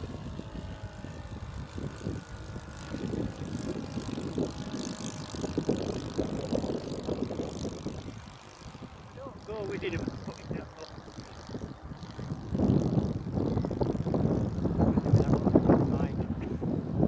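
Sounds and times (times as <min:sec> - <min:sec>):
model plane engine droning: 0:00.0 - 0:17.0
wind rumble on microphone: 0:00.0 - 0:17.0.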